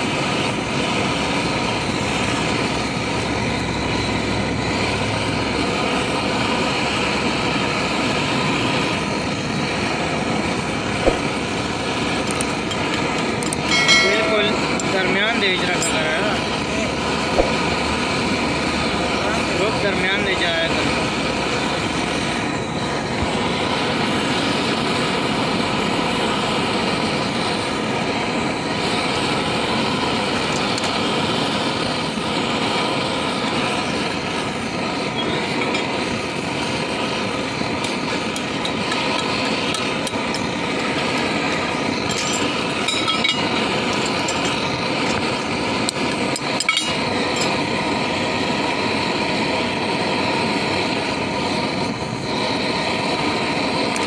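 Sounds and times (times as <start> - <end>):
machine drone: 0.0 - 54.0.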